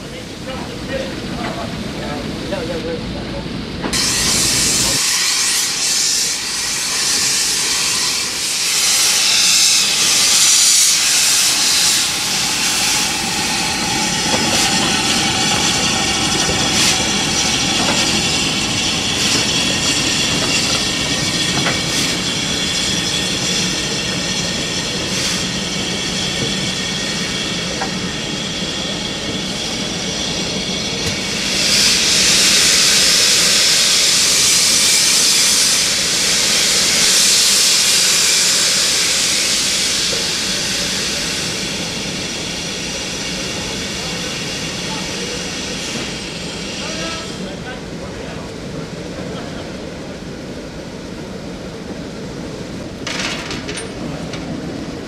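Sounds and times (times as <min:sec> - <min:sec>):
steam locomotive venting steam: 0:03.6 - 0:55.0.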